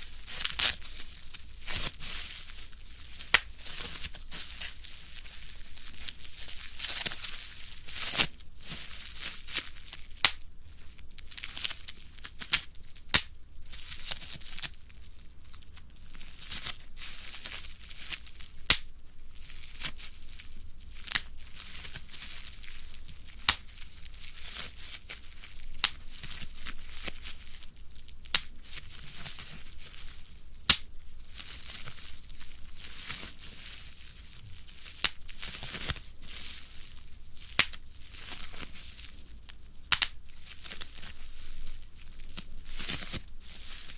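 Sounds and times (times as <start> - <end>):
bubble wrap crinkling: 0.0 - 43.9
bubble wrap pops: 0.3 - 10.5, 11.3 - 14.7, 16.4 - 18.9, 21.0 - 27.5, 28.2 - 33.4, 34.5 - 36.7, 37.4 - 41.6, 42.3 - 43.9.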